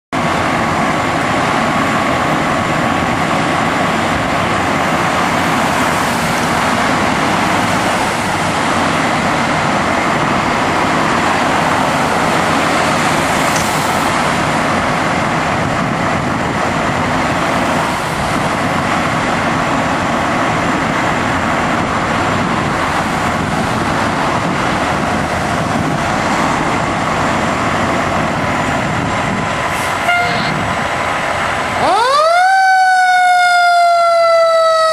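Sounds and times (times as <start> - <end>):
fire engine engine and road noise: 0.1 - 34.9.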